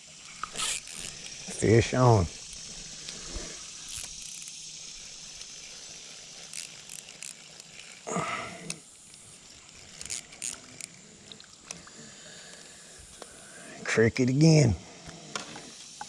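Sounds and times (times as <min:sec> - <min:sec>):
faint hiss: 0:00.0 - 0:16.0
fishing reel clicks: 0:00.1 - 0:13.5.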